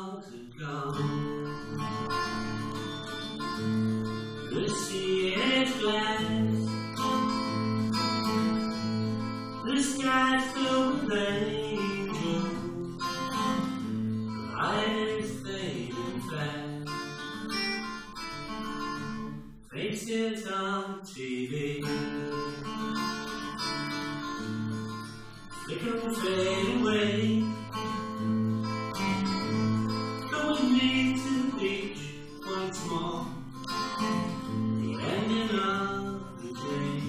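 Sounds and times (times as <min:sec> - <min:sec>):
acoustic guitar strumming chords: 0:00.0 - 0:37.0.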